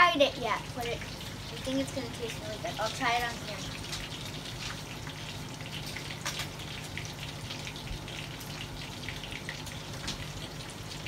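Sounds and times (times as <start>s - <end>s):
background hiss and low hum: 0.0s - 11.0s.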